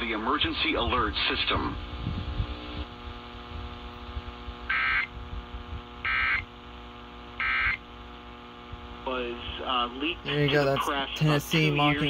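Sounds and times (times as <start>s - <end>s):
radio hum: 0.0s - 12.0s.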